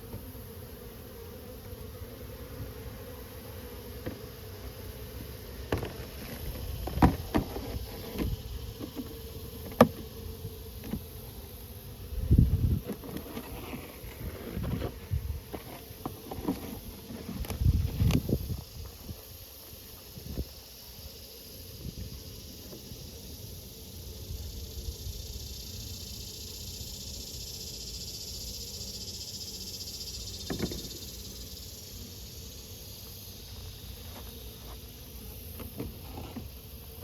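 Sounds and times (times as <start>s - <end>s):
steady high hiss: 0.0s - 37.0s.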